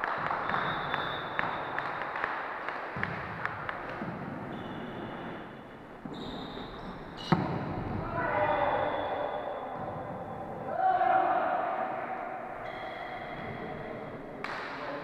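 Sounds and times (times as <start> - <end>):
noise of play on court: 0.0 - 15.0.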